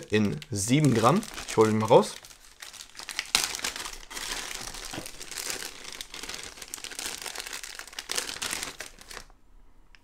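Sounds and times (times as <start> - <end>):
plastic bags crinkling: 0.0 - 9.4.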